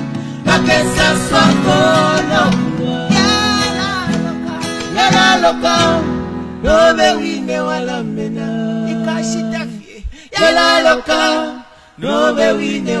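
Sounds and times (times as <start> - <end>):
church choir singing: 0.0 - 13.0.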